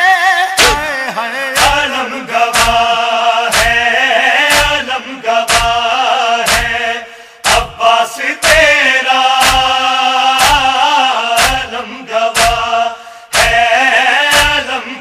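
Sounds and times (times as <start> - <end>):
man chanting a lament: 0.0 - 15.0
sharp beat: 0.6 - 0.9, 1.6 - 1.9, 2.5 - 14.8.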